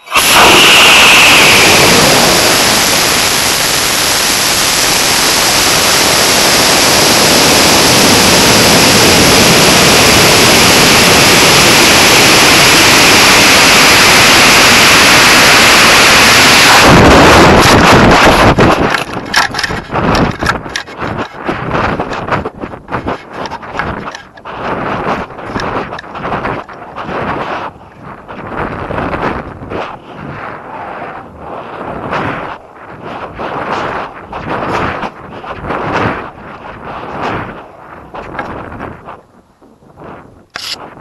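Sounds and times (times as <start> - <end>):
rush of air over rocket: 0.0 - 39.3
gusty wind buffeting: 0.0 - 41.0.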